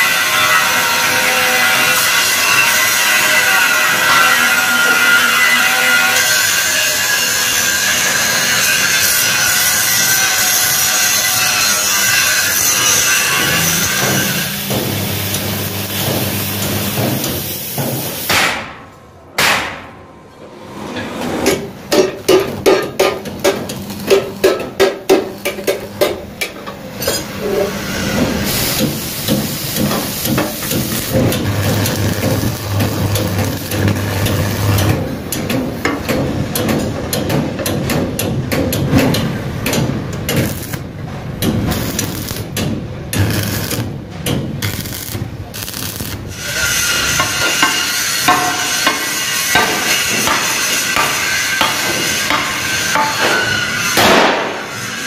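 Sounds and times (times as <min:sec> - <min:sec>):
arc welding crackle and hiss: 0:00.0 - 0:18.3, 0:23.0 - 0:26.4, 0:27.0 - 0:35.9, 0:40.2 - 0:55.0.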